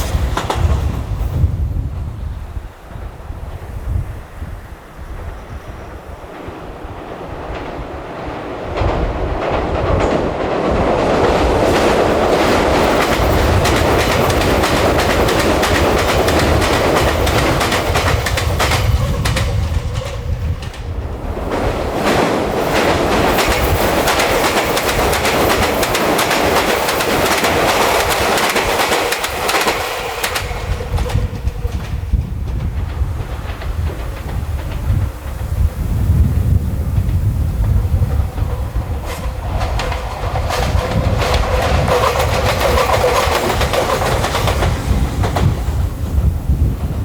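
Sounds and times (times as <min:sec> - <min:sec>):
train wheels clacking: 0:00.0 - 0:47.0.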